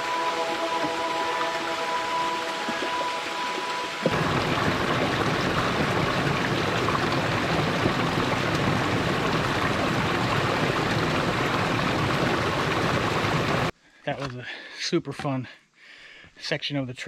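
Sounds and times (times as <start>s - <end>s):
stream running over rocks: 0.0s - 13.7s.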